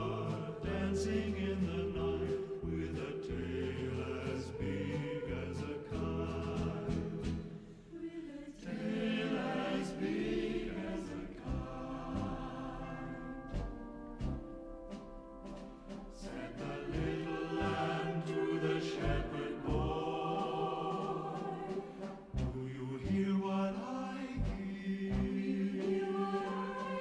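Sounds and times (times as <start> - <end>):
choir singing a carol: 0.0 - 27.0.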